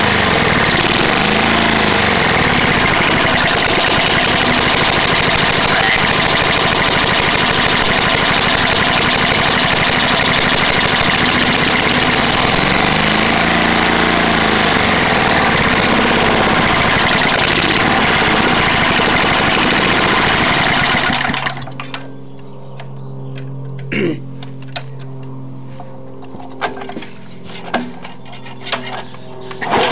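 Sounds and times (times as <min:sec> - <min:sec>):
lawn mower engine running rough: 0:00.0 - 0:22.4, 0:24.5 - 0:29.9.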